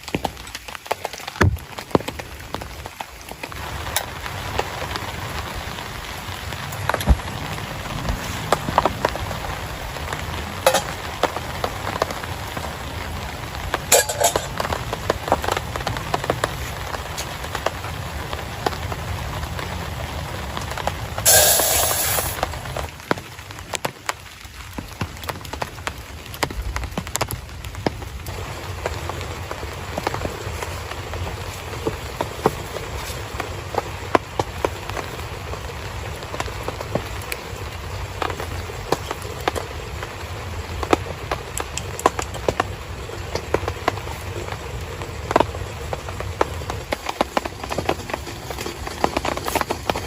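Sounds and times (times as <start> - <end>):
heavy rain falling: 0.0 - 50.0
raindrops striking a tent: 0.0 - 50.0.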